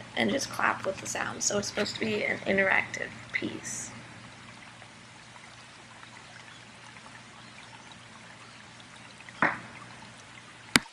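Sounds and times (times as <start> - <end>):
running water rushing: 0.0 - 10.9.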